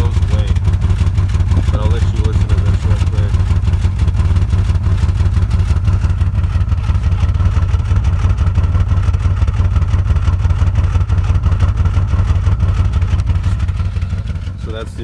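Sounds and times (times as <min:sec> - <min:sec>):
car exhaust rough idle: 0:00.0 - 0:15.0.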